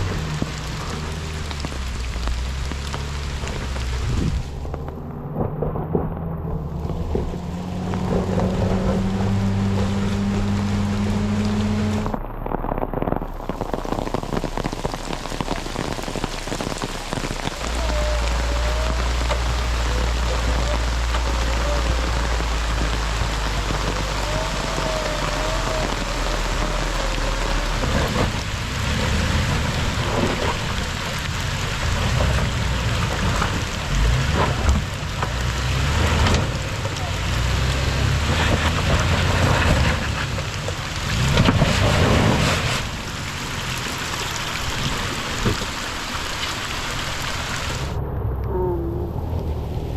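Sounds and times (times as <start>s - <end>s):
steady rain: 0.0s - 49.9s
vehicle engine humming: 0.0s - 49.9s.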